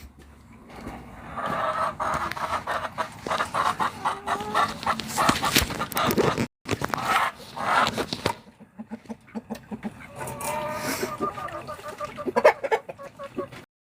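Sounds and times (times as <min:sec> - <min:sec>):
chickens clucking: 0:00.7 - 0:13.7.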